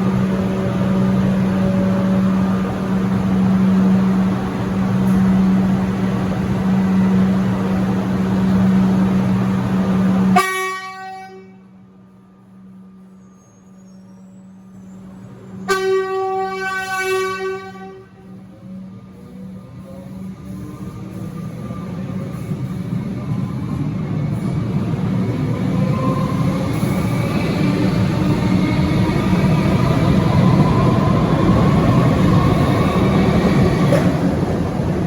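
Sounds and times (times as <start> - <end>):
wheels rumbling on rail: 0.0 - 35.0.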